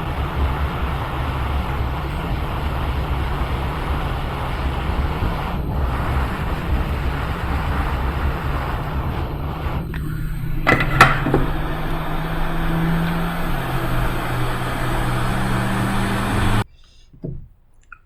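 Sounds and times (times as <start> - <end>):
fan blowing air: 0.0 - 16.6.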